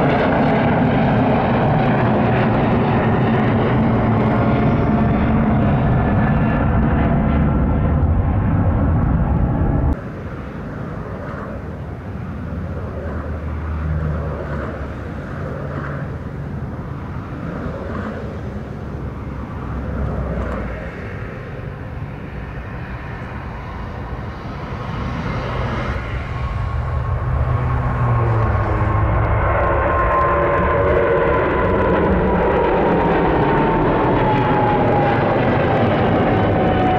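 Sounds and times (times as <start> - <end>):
jet engines running: 0.0 - 36.9
loud jet engine: 0.0 - 36.9
low hum: 0.0 - 36.9.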